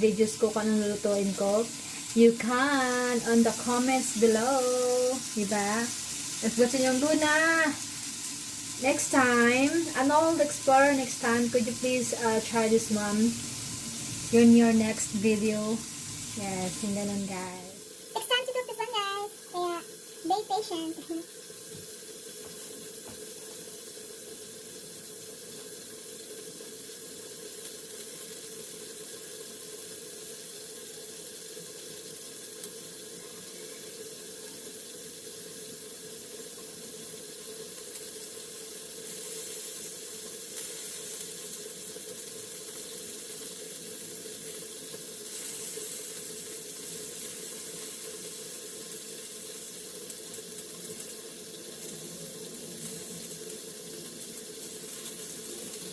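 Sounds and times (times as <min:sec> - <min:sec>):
wings sizzling in hot oil: 0:00.0 - 0:55.9.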